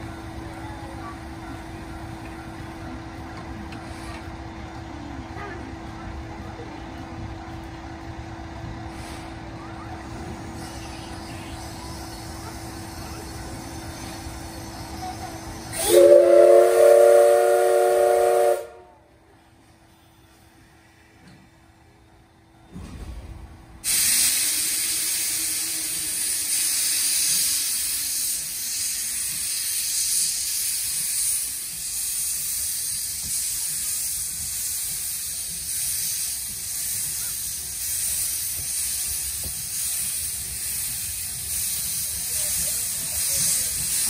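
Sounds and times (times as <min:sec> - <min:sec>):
steam locomotive hissing: 0:00.0 - 0:21.9, 0:22.6 - 0:44.0
train rumble: 0:00.0 - 0:44.0.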